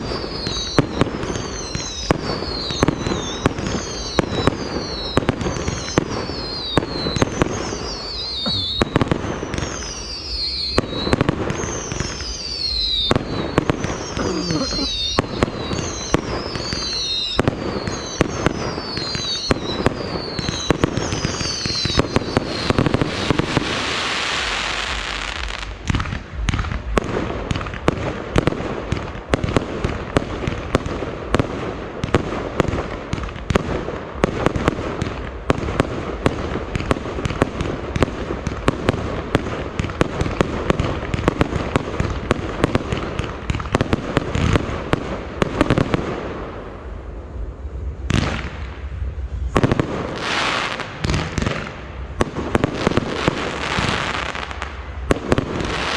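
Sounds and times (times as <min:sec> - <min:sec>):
fireworks bangs and crackles: 0:00.0 - 0:55.9
hissing spray of fireworks: 0:00.0 - 0:55.9.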